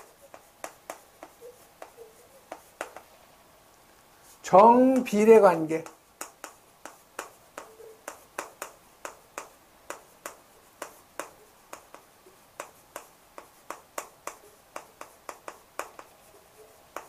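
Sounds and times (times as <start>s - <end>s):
chalk tapping on a chalkboard: 0.0s - 3.2s, 4.6s - 17.0s.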